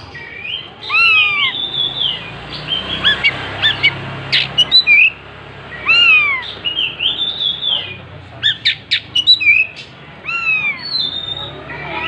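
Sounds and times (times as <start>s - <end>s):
bird singing whistled notes: 0.0s - 9.9s, 10.6s - 11.6s.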